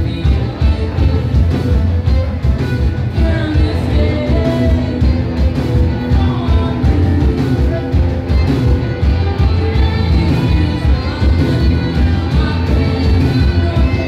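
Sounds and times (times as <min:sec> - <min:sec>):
person singing: 0:00.0 - 0:14.0
rock band playing: 0:00.0 - 0:14.0.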